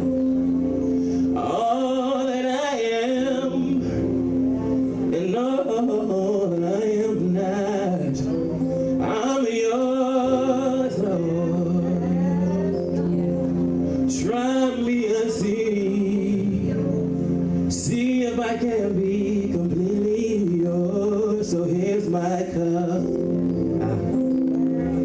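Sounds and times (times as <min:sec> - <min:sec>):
held instrumental chords: 0:00.0 - 0:25.0
man singing melismatic phrases: 0:01.4 - 0:04.4, 0:05.1 - 0:13.0, 0:14.0 - 0:24.3.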